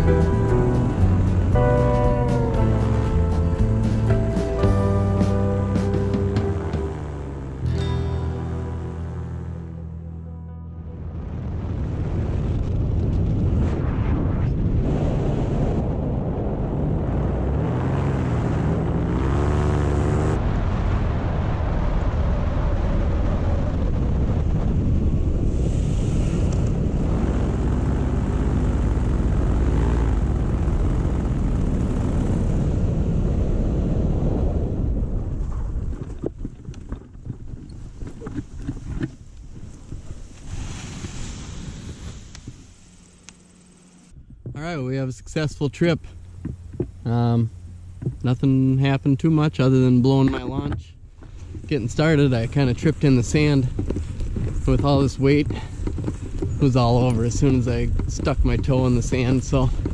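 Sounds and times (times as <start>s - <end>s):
paramotor engine and propeller: 0.0s - 10.2s, 14.9s - 44.6s, 45.2s - 59.9s
wind on microphone: 10.8s - 59.9s.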